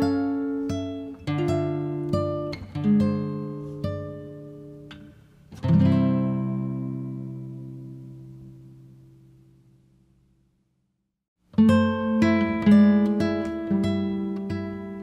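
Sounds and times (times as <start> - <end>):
acoustic guitar playing: 0.0 - 10.0, 11.5 - 15.0.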